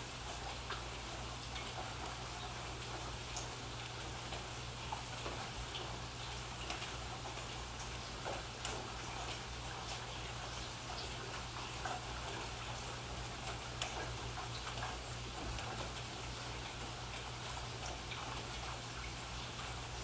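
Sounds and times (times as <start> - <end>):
rain with dripping drops: 0.0 - 20.0.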